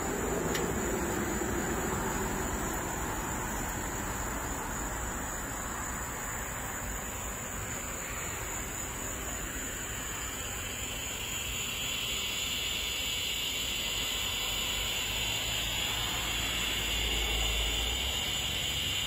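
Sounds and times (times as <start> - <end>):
hiss: 0.0 - 19.0
insect drone: 0.0 - 19.0.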